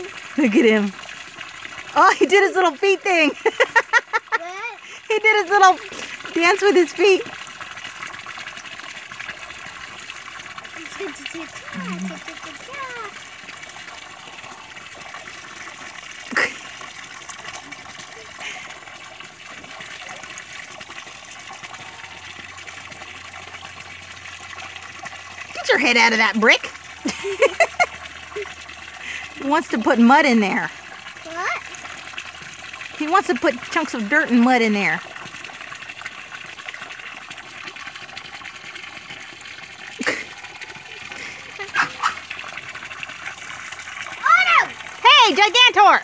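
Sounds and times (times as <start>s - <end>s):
water pouring into pool: 0.0s - 46.0s
water splashing: 0.0s - 46.0s.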